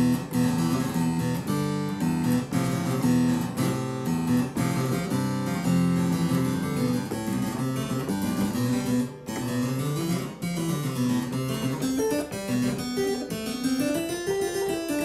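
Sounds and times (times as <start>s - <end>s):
harpsichord playing: 0.0s - 15.0s.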